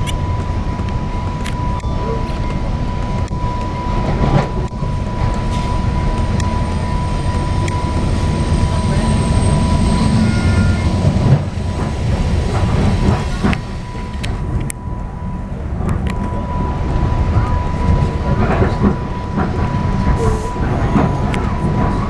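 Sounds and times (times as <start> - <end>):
steady high-pitched tone: 0.0 - 22.0
train rumbling on rails: 0.0 - 22.0.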